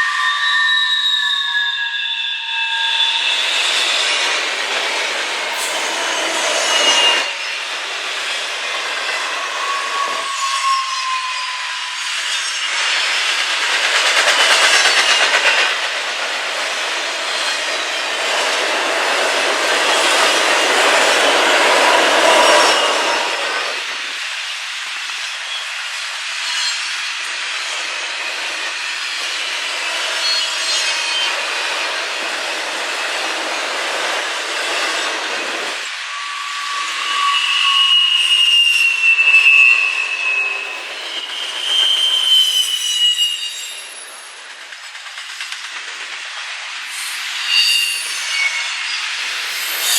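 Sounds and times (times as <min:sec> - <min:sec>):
high wheel squeal: 0:00.0 - 0:44.5, 0:46.9 - 0:49.9
train wheels rolling on track: 0:00.0 - 0:49.9.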